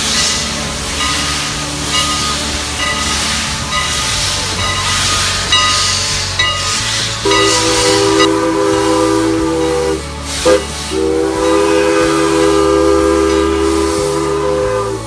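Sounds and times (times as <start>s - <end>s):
steam locomotive chime whistle: 0.0s - 15.0s
steam venting hiss: 0.0s - 15.0s.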